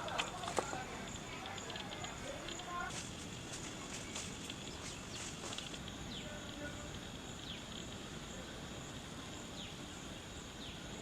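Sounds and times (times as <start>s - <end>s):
insects trilling: 0.0s - 11.0s
low outdoor hum: 0.0s - 11.0s.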